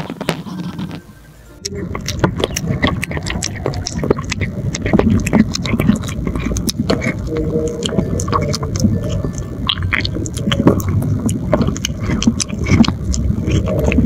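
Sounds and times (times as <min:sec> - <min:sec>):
cat chewing wet food: 0:01.6 - 0:14.0.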